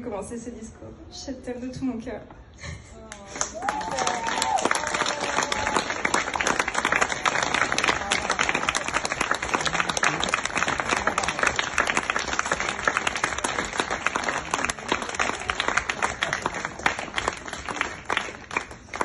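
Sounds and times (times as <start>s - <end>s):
crowd applauding: 3.1s - 19.0s.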